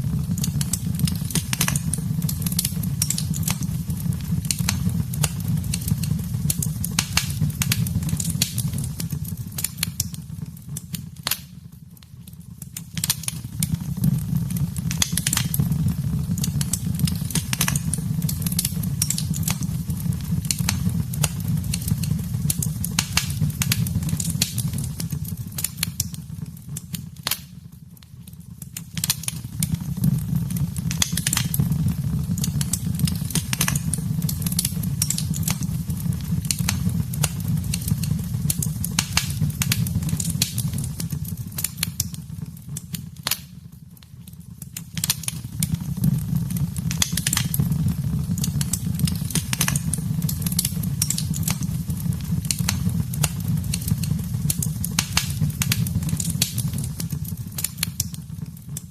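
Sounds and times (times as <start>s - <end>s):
fireplace fire crackling: 0.0s - 58.9s.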